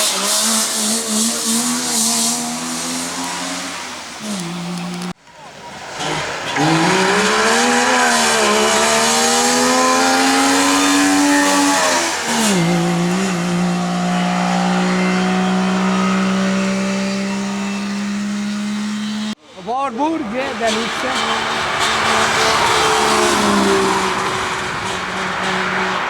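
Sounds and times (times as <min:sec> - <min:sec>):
rally car engine accelerating hard: 0:00.0 - 0:19.4, 0:20.4 - 0:26.0.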